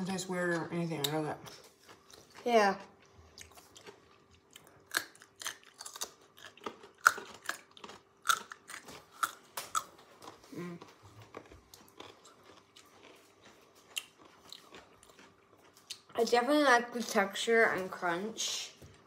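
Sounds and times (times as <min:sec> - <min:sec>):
person chewing crunchy food: 0:01.0 - 0:16.4.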